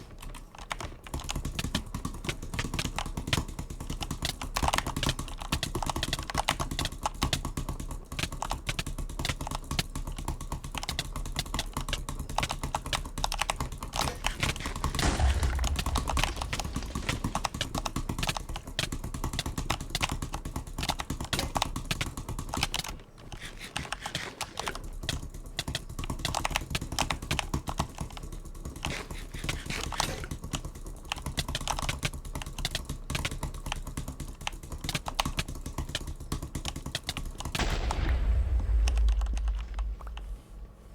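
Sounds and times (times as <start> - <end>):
clicker toy clicking rapidly: 0.0 - 37.6.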